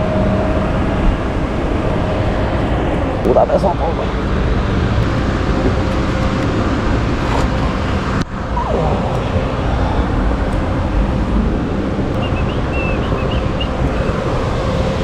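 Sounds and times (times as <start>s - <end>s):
road noise: 0.0s - 15.0s
wind noise: 0.0s - 15.0s.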